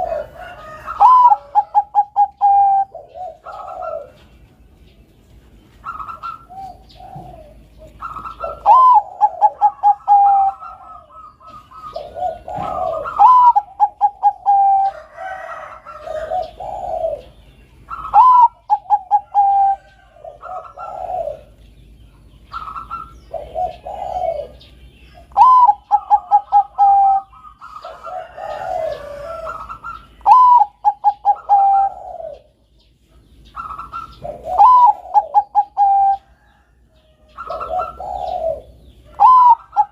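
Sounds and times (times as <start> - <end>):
dove cooing: 0.0 - 5.0, 5.7 - 39.9.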